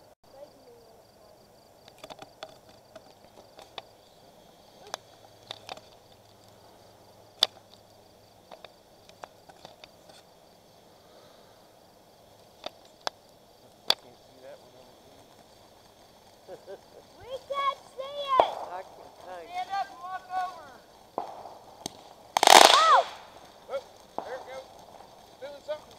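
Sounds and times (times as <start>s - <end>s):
fireworks crackling and popping: 0.0s - 25.9s
insects chirring: 0.0s - 25.9s.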